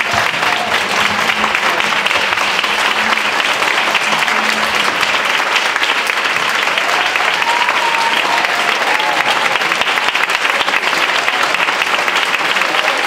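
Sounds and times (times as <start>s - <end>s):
audience clapping: 0.0s - 13.0s.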